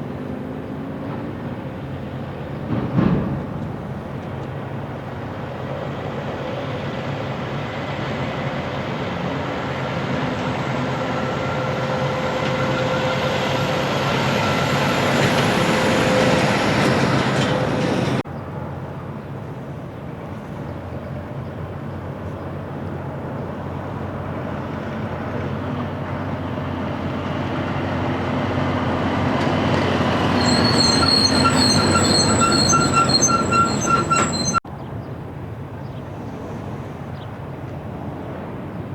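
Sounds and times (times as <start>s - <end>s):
heavy vehicles passing by: 0.0s - 38.9s.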